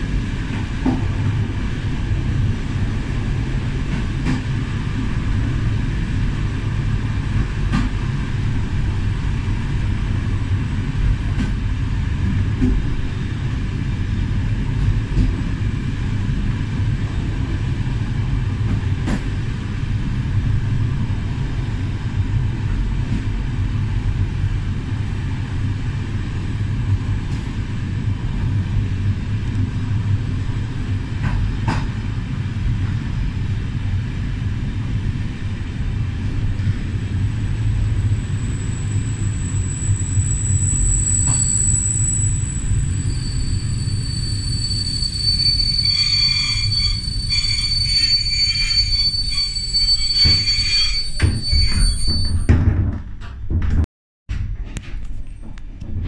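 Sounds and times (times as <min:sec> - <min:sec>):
train coach rumbling on track: 0:00.0 - 0:53.3.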